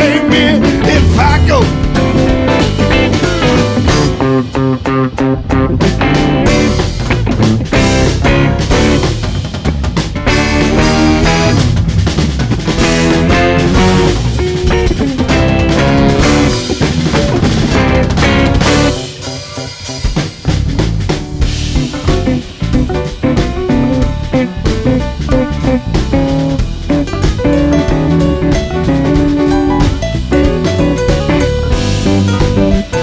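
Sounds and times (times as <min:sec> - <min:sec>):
drum kit: 0:00.0 - 0:33.0
guitar: 0:00.0 - 0:33.0
live band playing: 0:00.0 - 0:33.0.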